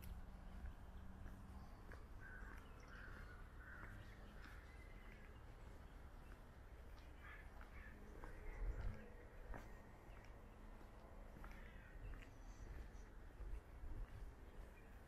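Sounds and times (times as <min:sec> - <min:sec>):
low city rumble: 0:00.0 - 0:15.0.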